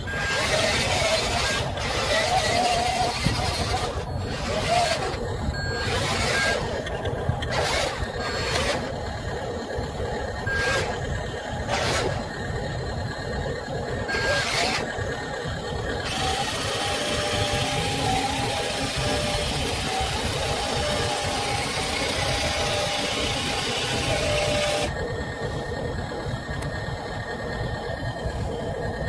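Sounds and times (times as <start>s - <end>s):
toy truck motors running: 0.0s - 29.0s.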